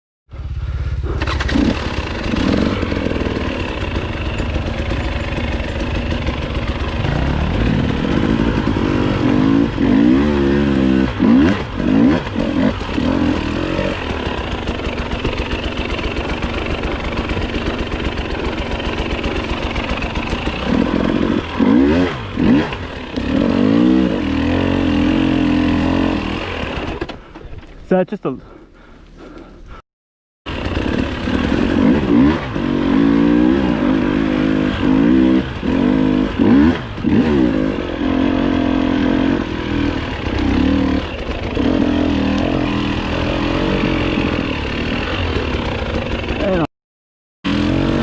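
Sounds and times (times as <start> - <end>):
dirt bike engine revving: 0.4 - 27.2, 30.5 - 46.7, 47.5 - 48.0.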